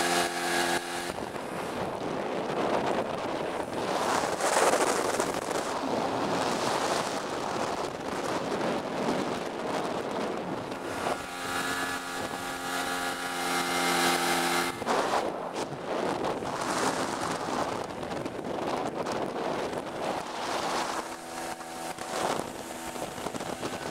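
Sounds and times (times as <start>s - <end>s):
outboard motor droning: 0.0s - 23.9s
wind on microphone: 0.0s - 23.9s.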